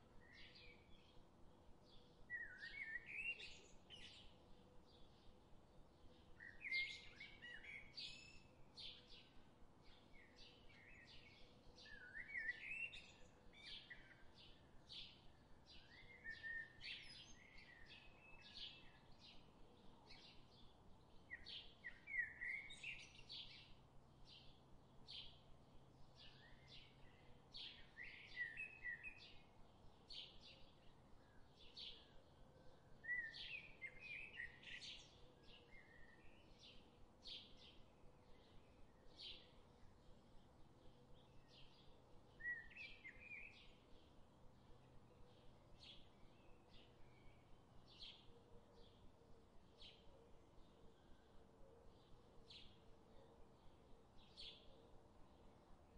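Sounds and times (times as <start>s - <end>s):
faint birdsong chirps: 0.0s - 55.9s.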